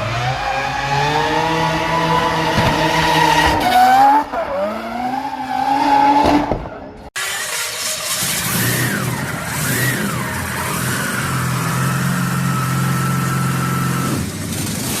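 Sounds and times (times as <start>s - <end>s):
rotary car engine revving: 0.0s - 15.0s.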